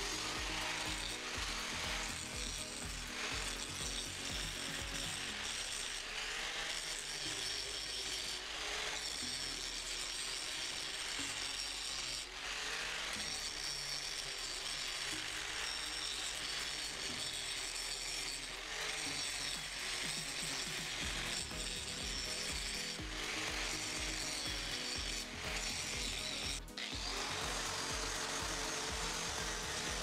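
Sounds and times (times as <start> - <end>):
angle grinder grinding metal: 0.0 - 30.0.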